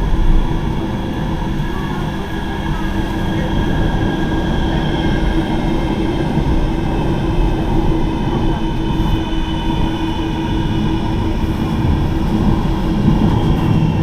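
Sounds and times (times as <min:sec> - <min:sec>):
constant low hum: 0:00.0 - 0:14.0
high drive whines: 0:00.0 - 0:14.0
tram wheels rumbling on rail: 0:00.0 - 0:14.0.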